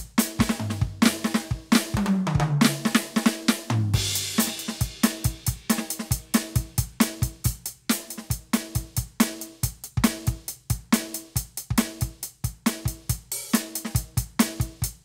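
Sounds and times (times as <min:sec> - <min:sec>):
electronic drum tom fill: 0:00.0 - 0:12.2
kick snare and hi-hat groove: 0:00.0 - 0:15.0.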